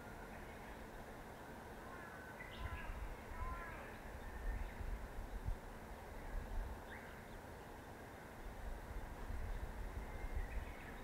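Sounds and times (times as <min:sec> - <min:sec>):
small birds calling: 0:00.0 - 0:11.0.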